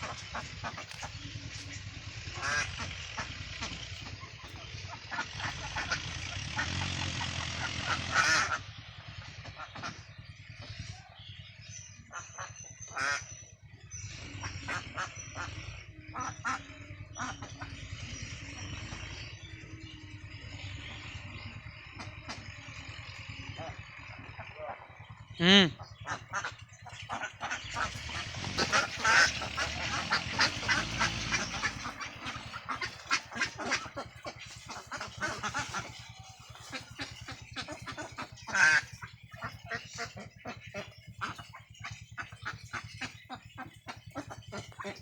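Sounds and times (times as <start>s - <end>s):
ducks quacking: 0.0s - 45.0s
steady low hum: 7.8s - 45.0s.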